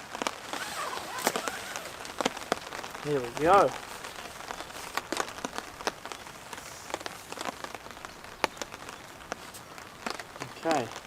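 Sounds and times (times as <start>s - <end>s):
raindrops tapping sharply: 0.0s - 11.0s.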